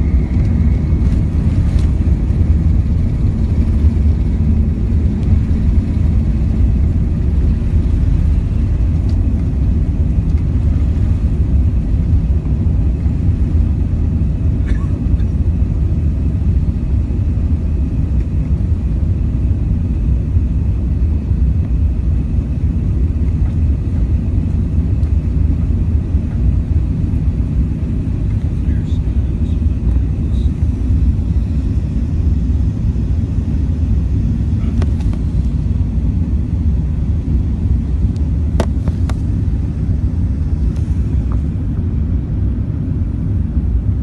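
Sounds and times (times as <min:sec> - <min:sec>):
jet engines rumbling: 0:00.0 - 0:44.0.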